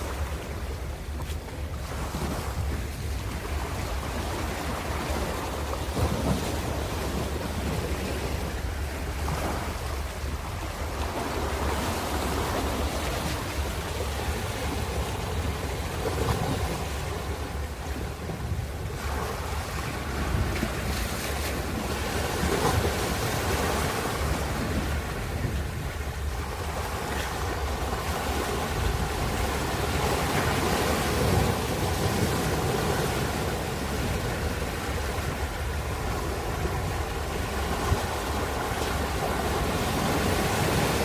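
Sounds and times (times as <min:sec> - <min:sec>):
surf low rumble: 0:00.0 - 0:41.0
waves breaking: 0:00.0 - 0:41.0.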